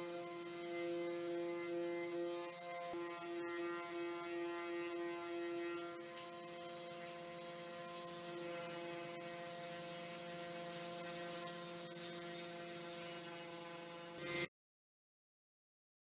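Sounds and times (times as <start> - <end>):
router spindle cutting wood: 0.0 - 14.5.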